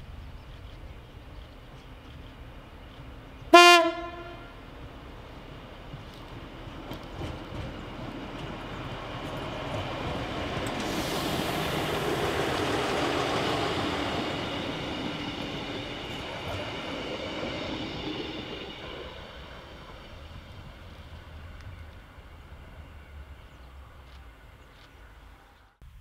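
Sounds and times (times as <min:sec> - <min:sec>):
diesel train passing: 0:00.0 - 0:25.8
train wheels on rails: 0:00.1 - 0:25.7.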